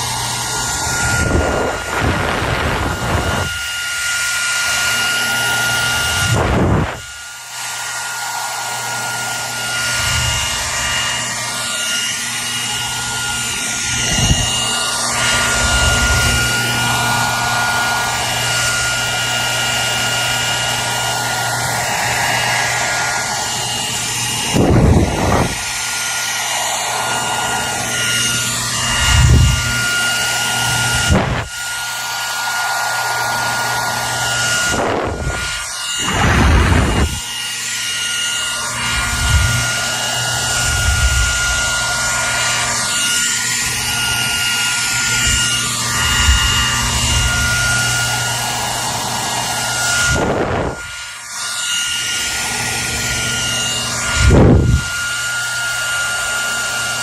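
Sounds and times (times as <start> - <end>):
hair dryer whining: 0.0 - 57.0.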